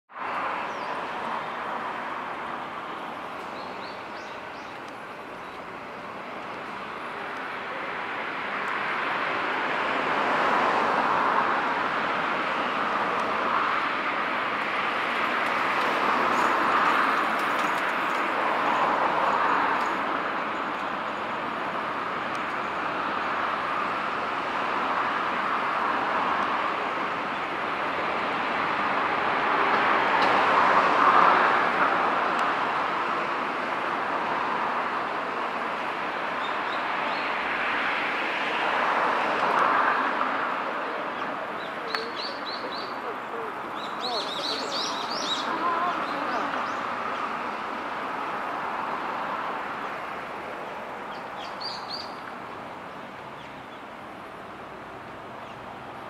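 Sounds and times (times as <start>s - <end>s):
distant road traffic: 0.1s - 56.0s.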